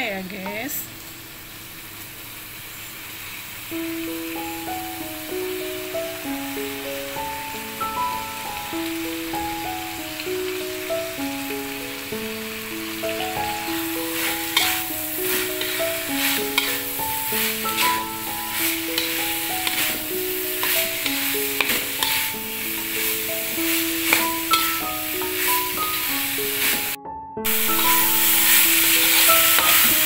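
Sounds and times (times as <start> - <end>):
vegetables sizzling in a wok: 0.0 - 30.0
simple background melody: 3.7 - 30.0.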